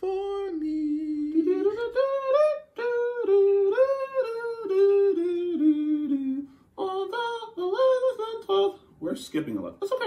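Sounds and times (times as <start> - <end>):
person humming a tune: 0.0 - 8.4.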